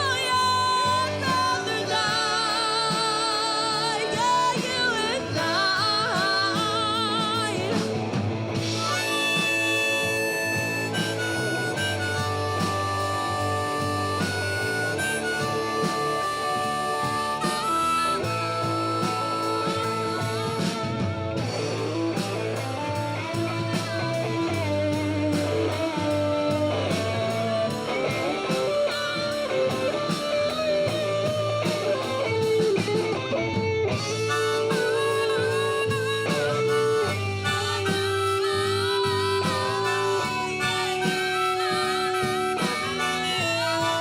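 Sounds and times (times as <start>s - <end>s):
bluesy guitar lead: 0.0s - 44.0s
steady bass line: 0.0s - 44.0s.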